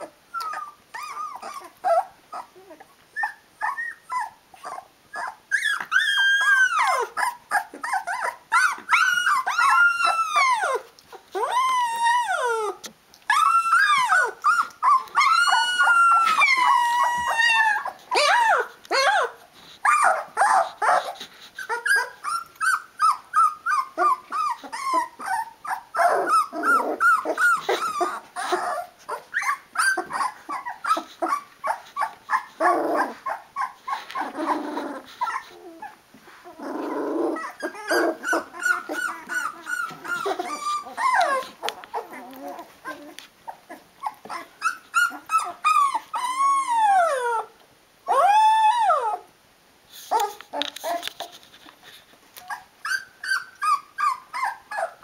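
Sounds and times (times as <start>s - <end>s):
puppies whining and squealing: 0.0s - 49.3s, 50.0s - 55.0s
puppy rising and falling cries: 0.0s - 49.3s, 52.4s - 55.0s.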